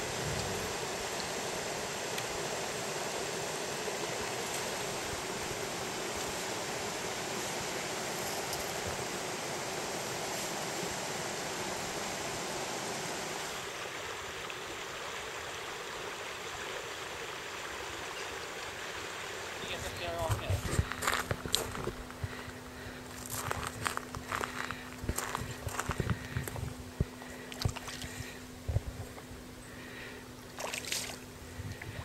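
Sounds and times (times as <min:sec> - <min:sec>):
creek water rushing: 0:00.0 - 0:28.6.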